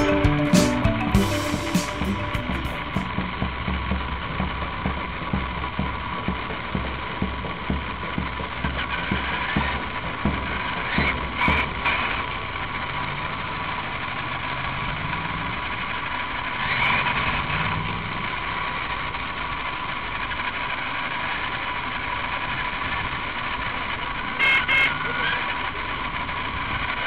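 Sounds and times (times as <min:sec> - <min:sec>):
constant whine: 0:00.0 - 0:27.0
street traffic: 0:00.0 - 0:27.0
vehicle engine: 0:00.0 - 0:27.0.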